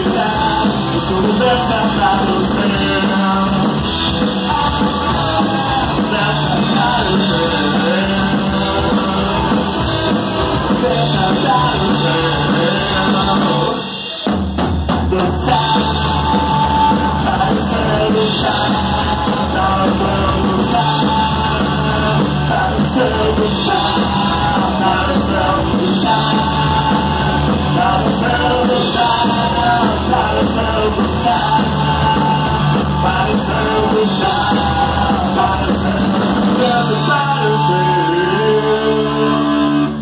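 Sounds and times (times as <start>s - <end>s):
person singing into a microphone: 0.0s - 14.3s, 14.9s - 40.0s
drum kit with cymbal crashes: 0.0s - 38.0s
bass guitar: 0.0s - 40.0s
distorted electric guitar: 0.0s - 40.0s.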